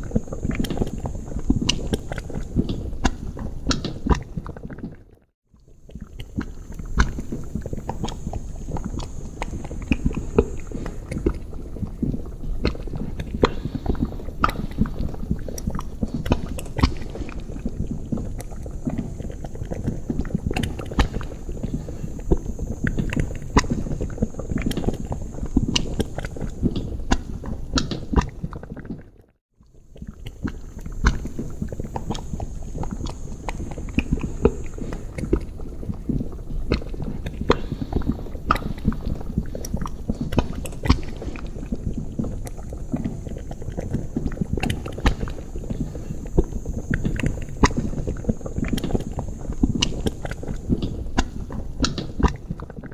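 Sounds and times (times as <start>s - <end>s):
liquid bubbling in a cauldron: 0.0s - 52.9s.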